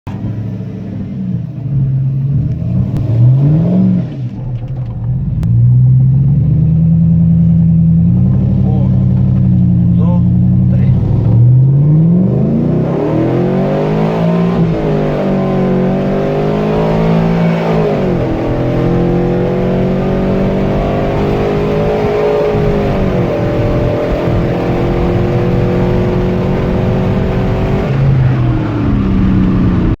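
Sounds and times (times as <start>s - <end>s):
car engine revving: 0.1s - 30.0s.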